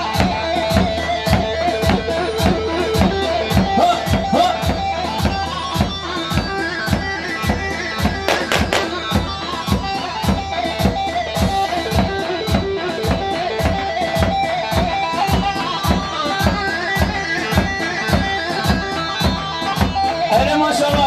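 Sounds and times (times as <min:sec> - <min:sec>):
driving drum beat: 0:00.0 - 0:21.0
plucked-string dance music: 0:00.0 - 0:21.0.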